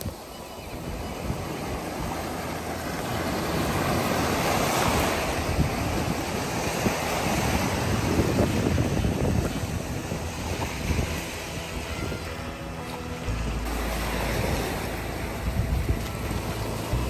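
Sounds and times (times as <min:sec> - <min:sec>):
waves breaking on pebbly shore: 0:00.0 - 0:17.0
wind rumbling on microphone: 0:00.0 - 0:17.0.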